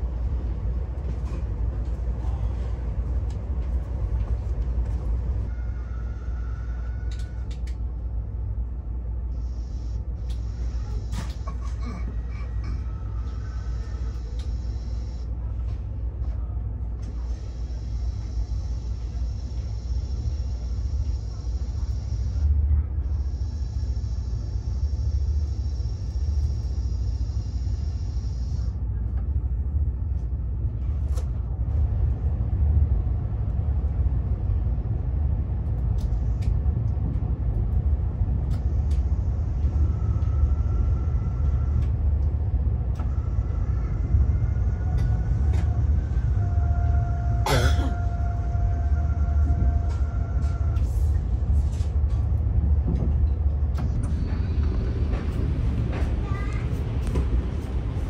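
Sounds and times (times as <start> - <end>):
train cabin low rumble: 0.0 - 58.0.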